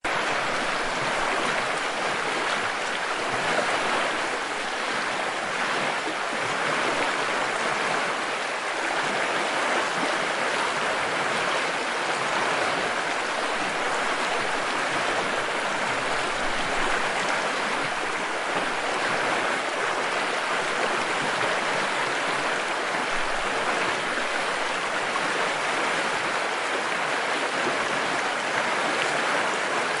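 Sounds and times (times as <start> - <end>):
stream flowing over rocks: 0.0 - 30.0.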